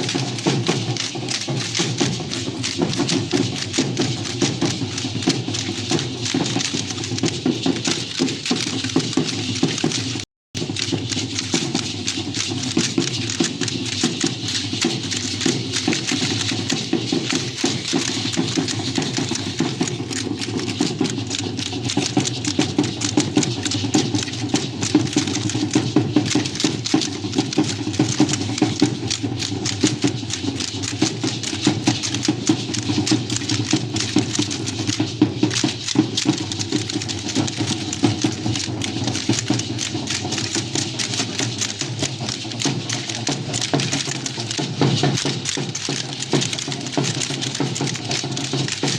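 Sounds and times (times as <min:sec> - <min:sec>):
drumming: 0:00.0 - 0:48.9
fast clatter of sharp clicks: 0:00.0 - 0:48.9.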